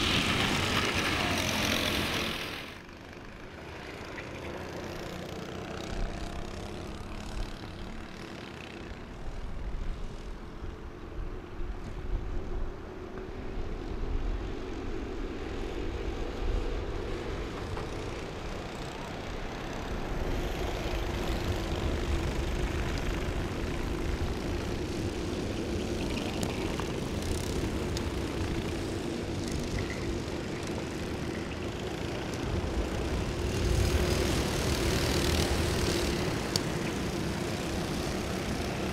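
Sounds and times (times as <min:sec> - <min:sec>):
kart engines droning: 0:00.0 - 0:38.9.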